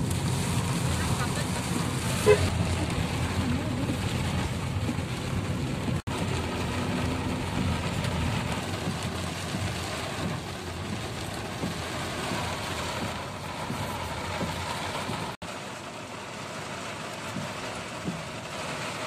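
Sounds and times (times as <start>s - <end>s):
car engine rumble: 0.0s - 19.0s
heavy rain on a car: 0.0s - 19.0s
wet tyres on road: 0.0s - 19.0s.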